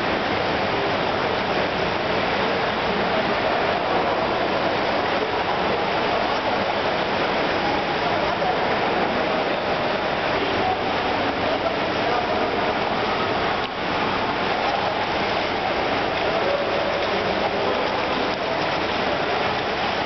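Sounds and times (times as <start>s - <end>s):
echoing murmur of voices: 0.0s - 20.0s
rushing water in pool: 0.0s - 20.0s.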